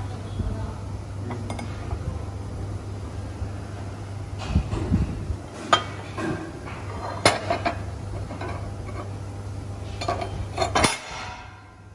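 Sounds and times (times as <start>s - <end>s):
low machine hum: 0.0s - 11.9s.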